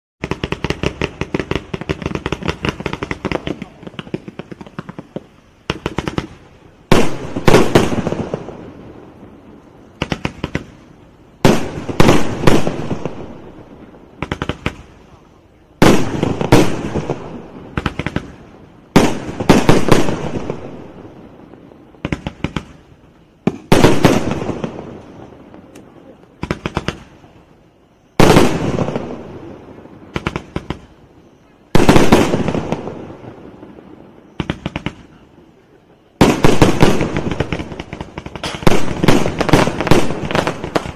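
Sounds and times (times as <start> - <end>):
firework launch cracks: 0.2 - 27.4, 28.1 - 31.1, 31.7 - 35.2, 36.2 - 40.9
crackling firework bursts: 0.2 - 40.9.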